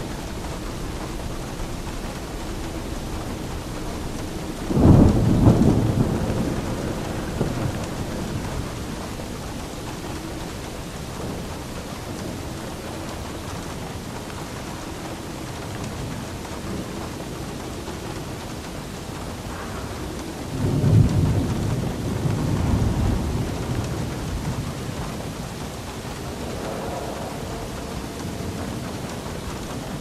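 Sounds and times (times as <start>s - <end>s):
steady rain: 0.0s - 30.0s
thunder clap rumbling: 0.0s - 30.0s.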